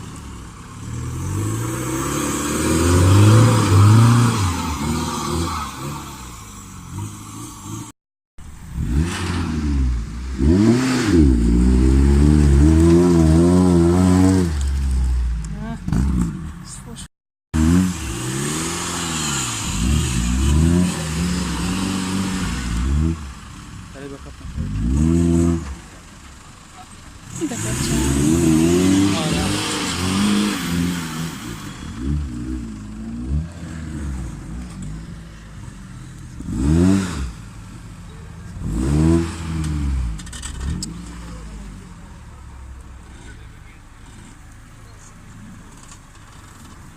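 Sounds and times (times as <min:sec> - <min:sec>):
vehicle engine revving: 0:00.0 - 0:16.6, 0:17.6 - 0:46.7.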